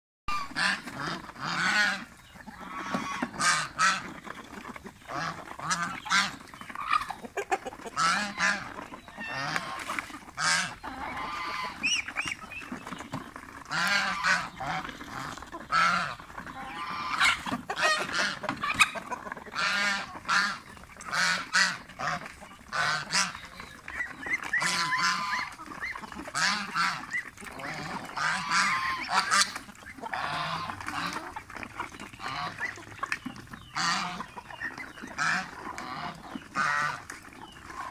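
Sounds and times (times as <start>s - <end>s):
goose honking: 0.3s - 12.7s, 13.6s - 37.9s.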